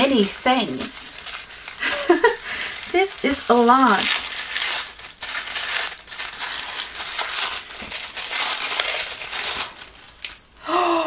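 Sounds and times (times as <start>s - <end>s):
wrapping paper crinkling: 0.0s - 10.6s.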